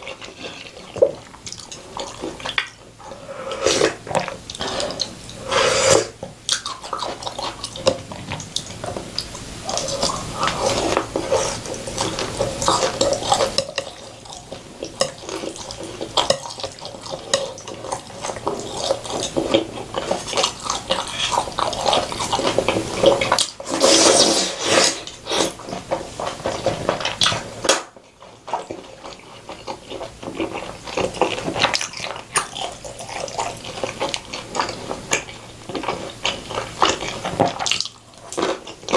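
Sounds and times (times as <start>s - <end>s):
chewing and slurping noodles: 0.0s - 38.9s.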